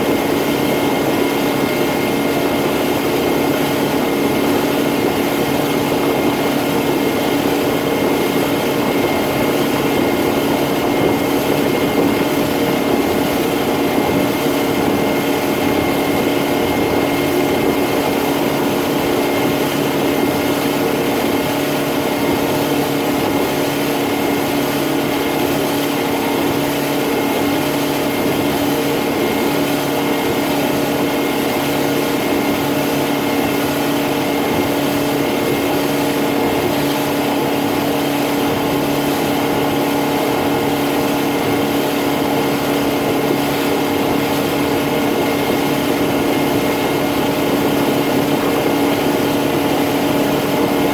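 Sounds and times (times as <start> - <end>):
boat motor droning: 0.0 - 50.9.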